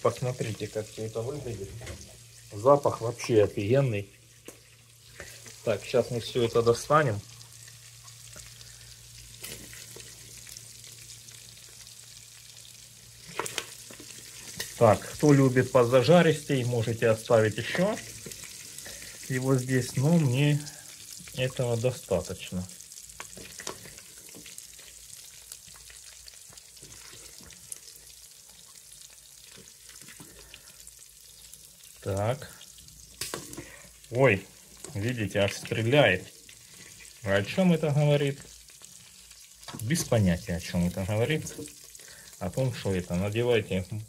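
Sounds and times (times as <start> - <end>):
faint crackles: 0.0 - 43.6
meat sizzling in hot fat: 0.0 - 44.0.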